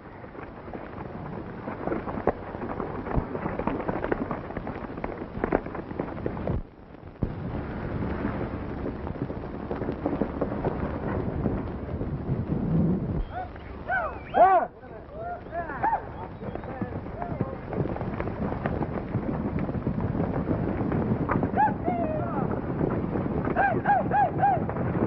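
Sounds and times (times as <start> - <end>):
galloping hoofbeats: 0.0 - 6.7, 7.5 - 25.0.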